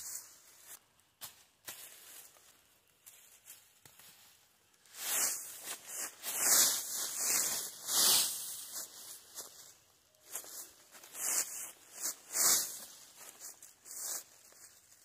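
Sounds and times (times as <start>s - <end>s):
hissing scrapes and rustles: 0.0s - 15.0s.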